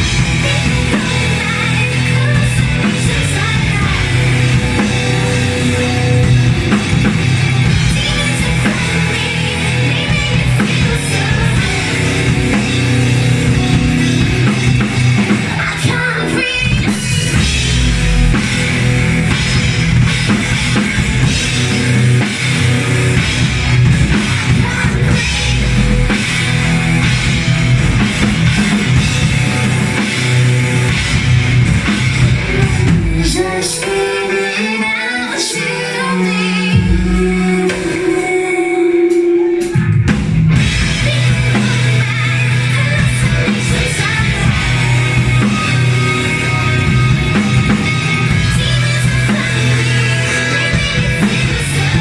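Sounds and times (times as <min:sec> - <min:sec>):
heavy drum kit: 0:00.0 - 0:52.0
live rock band playing: 0:00.0 - 0:52.0.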